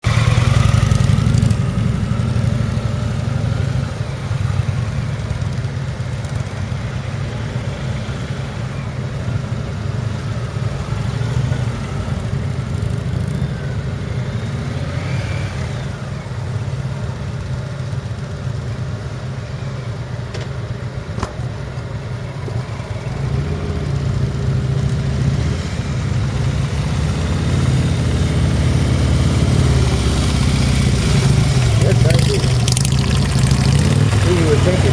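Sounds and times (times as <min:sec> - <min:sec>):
motorcycle engines revving: 0:00.0 - 0:34.9.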